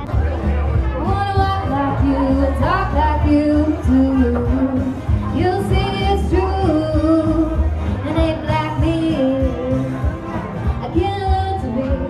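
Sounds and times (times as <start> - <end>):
pop backing track with bass beat: 0.0 - 12.0
woman singing into a microphone: 0.9 - 12.0.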